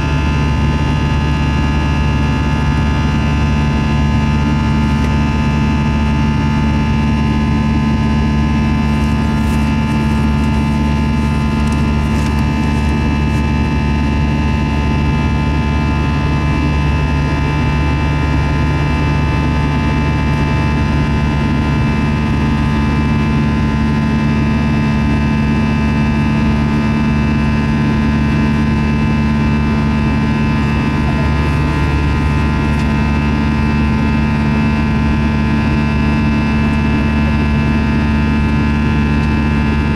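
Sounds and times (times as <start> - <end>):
jet engines running in cabin: 0.0 - 39.9
low rumble of air noise: 0.0 - 39.9.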